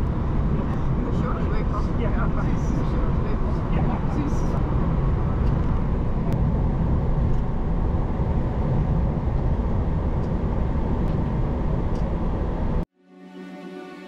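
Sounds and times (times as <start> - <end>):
aircraft engines idling rumble: 0.0 - 12.8.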